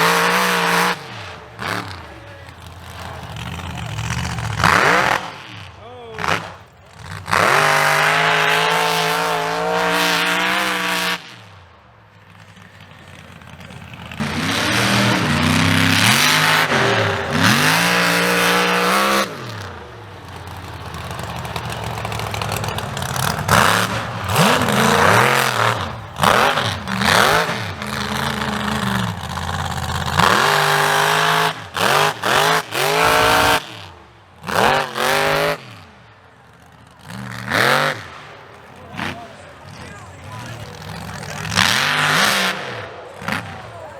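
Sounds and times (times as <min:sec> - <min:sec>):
mud truck engine revving: 0:00.0 - 0:43.9.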